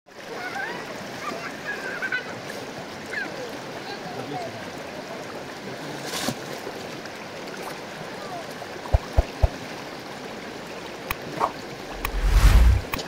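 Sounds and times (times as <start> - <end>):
river water rushing and splashing: 0.1 - 13.0.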